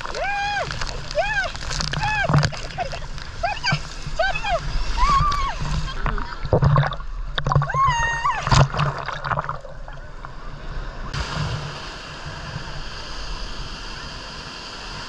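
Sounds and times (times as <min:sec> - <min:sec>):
sea water splashing: 0:00.0 - 0:15.0
surf washing: 0:00.0 - 0:15.0.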